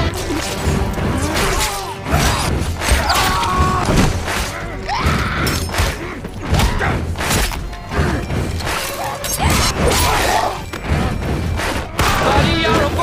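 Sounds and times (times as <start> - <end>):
music: 0.0 - 13.0
punches and thuds: 0.4 - 13.0.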